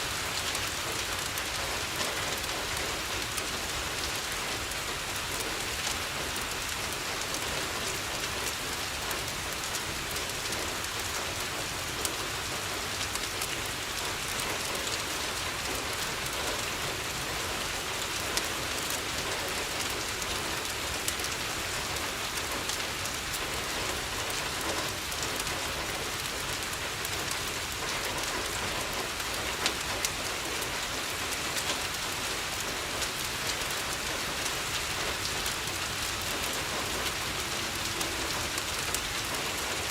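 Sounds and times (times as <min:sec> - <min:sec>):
rain against a window: 0:00.0 - 0:39.9
wood fire crackling: 0:00.1 - 0:39.9.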